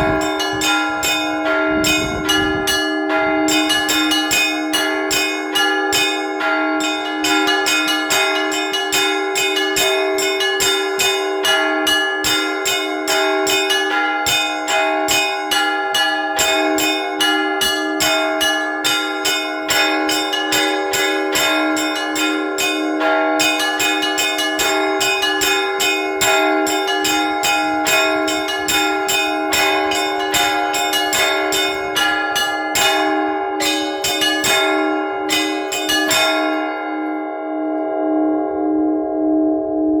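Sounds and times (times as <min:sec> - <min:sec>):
lower bells ringing: 0:00.0 - 0:39.8
small church bells pealing: 0:00.0 - 0:40.0.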